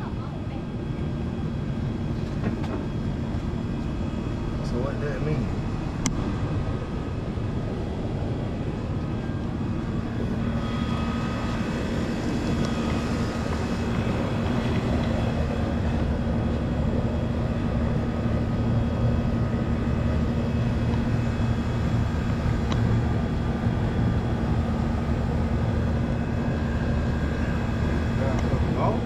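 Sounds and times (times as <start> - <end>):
motor drone humming: 0.0 - 29.0.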